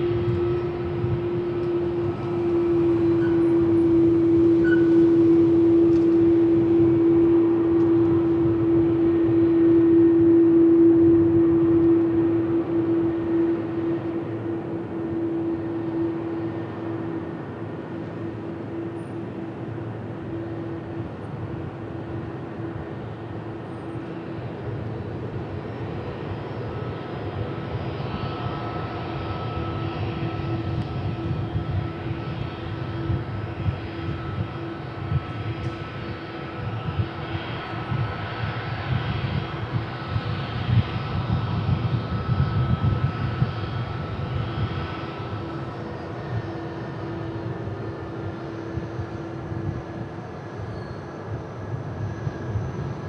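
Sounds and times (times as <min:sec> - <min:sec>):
jet engines rumbling: 0:00.0 - 0:53.0
steady hum: 0:00.0 - 0:53.0.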